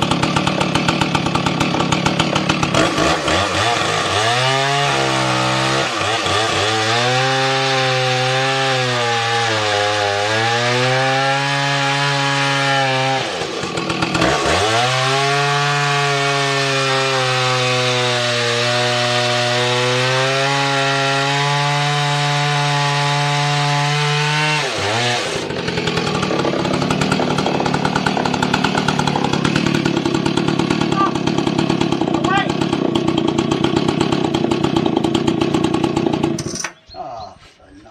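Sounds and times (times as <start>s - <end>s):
chainsaw cutting wood: 0.0s - 36.8s.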